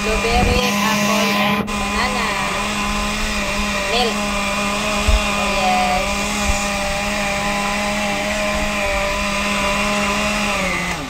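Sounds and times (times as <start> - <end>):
blender motor whirring: 0.0 - 11.0.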